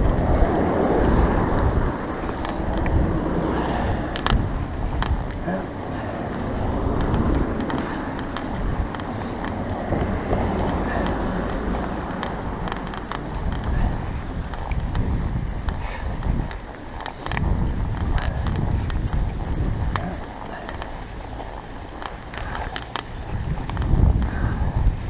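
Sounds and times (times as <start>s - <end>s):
bicycle riding through snow: 0.0s - 25.0s
wind buffeting microphone: 0.0s - 25.0s.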